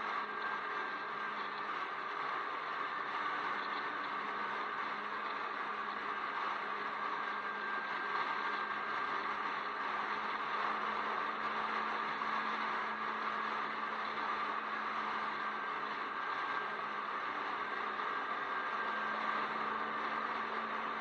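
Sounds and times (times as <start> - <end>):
constant low hum: 0.0 - 21.0
vehicle driving steadily: 0.0 - 21.0.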